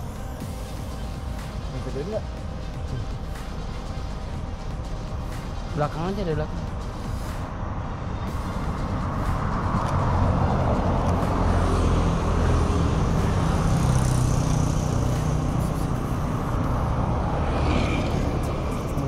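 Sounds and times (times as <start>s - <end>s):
passing vehicle engine: 0.0s - 19.0s.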